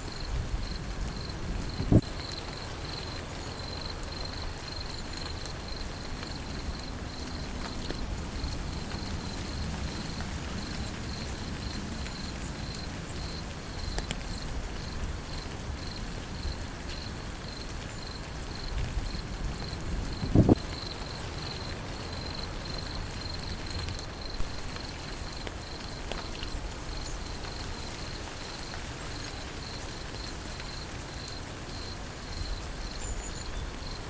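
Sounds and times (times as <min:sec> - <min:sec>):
insect chirping: 0:00.0 - 0:26.0, 0:26.9 - 0:34.0
steady rain: 0:00.0 - 0:34.0.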